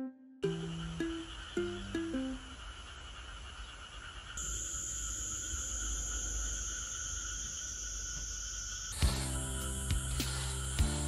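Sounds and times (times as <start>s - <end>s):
high insect buzz: 0.4s - 11.0s
insects and frogs trilling: 0.4s - 11.0s.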